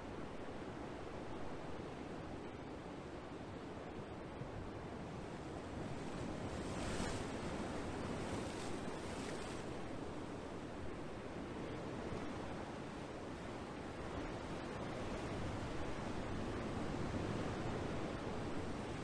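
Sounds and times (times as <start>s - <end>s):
ocean waves washing ashore: 0.6s - 19.0s.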